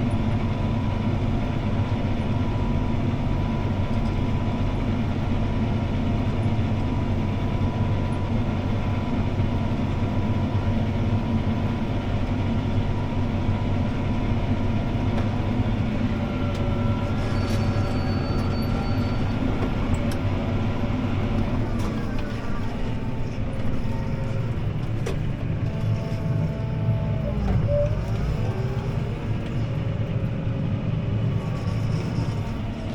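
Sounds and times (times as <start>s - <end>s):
tractor diesel engine droning: 0.0s - 32.9s.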